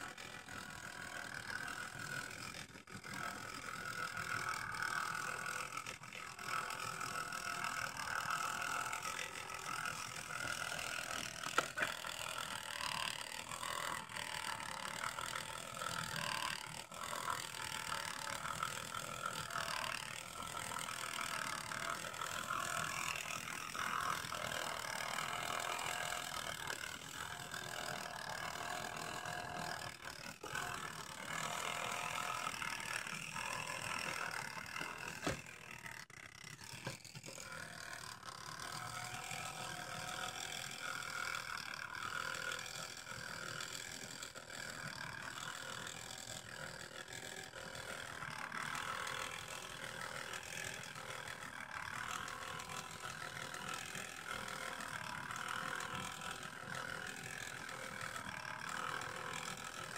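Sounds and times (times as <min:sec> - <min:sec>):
toy motor and gears grinding: 0:00.0 - 0:59.9.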